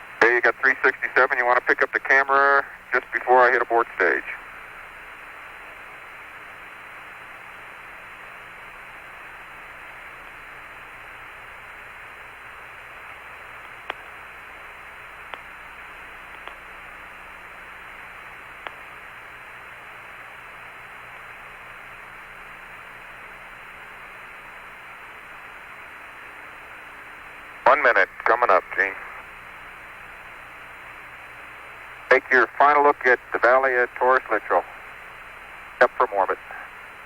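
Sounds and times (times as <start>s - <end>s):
faint low hum: 0.0s - 37.0s
radio static hiss: 0.0s - 37.0s.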